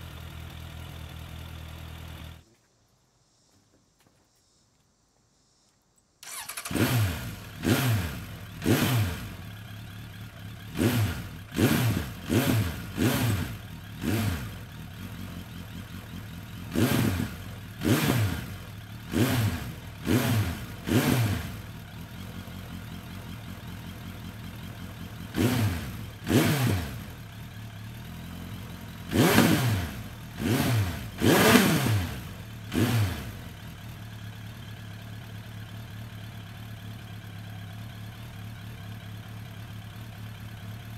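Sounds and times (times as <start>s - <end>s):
motorcycle engine idling and revving: 0.0s - 2.6s, 6.2s - 40.9s.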